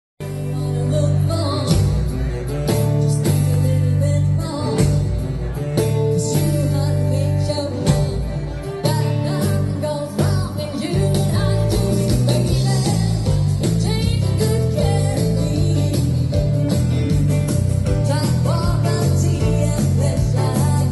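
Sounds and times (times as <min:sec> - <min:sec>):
woman singing: 0:00.2 - 0:02.4, 0:03.0 - 0:05.2, 0:06.1 - 0:16.7, 0:17.9 - 0:20.9
bass guitar: 0:00.2 - 0:20.9
drum kit: 0:00.2 - 0:20.9
electric guitars: 0:00.2 - 0:20.9.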